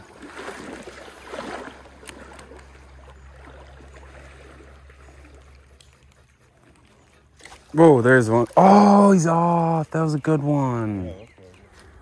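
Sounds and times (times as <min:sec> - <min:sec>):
stream water gurgling: 0:00.0 - 0:12.0.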